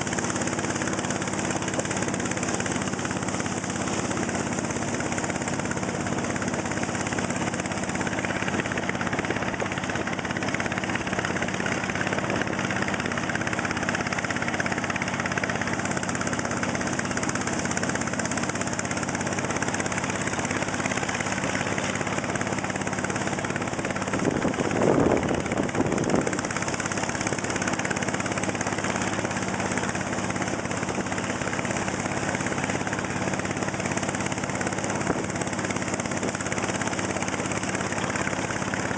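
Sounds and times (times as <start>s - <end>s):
motor boat engine running: 0.0s - 38.9s
water and wind noise: 0.0s - 38.9s.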